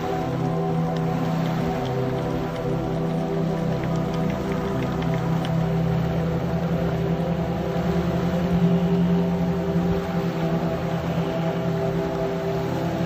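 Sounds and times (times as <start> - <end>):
sea waves washing over rocks: 0.0 - 13.0
steady low drone: 0.0 - 13.0.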